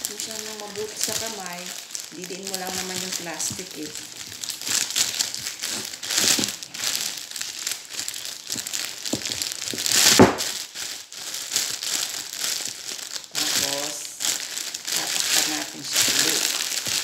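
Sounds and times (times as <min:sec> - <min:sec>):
plastic sheet crinkling: 0:00.0 - 0:17.0.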